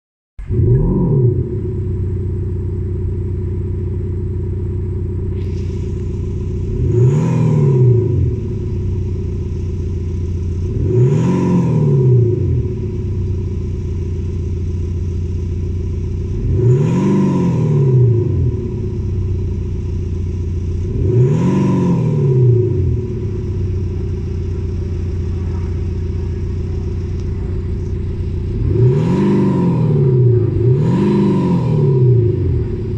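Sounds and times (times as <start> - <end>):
car exhaust idling and revving: 0.4 - 32.9.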